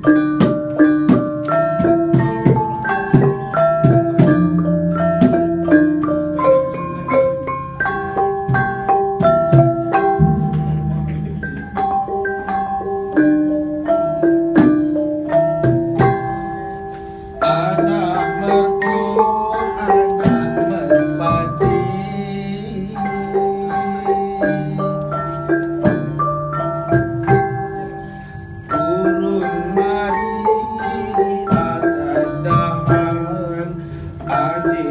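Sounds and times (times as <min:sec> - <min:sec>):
gamelan ensemble playing: 0:00.0 - 0:34.9.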